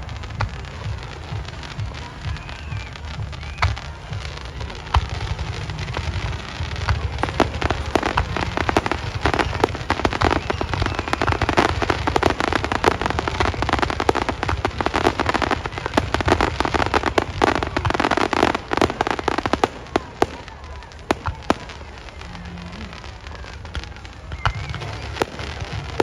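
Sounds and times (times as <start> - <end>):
fireworks crackling and booming: 0.0 - 26.0.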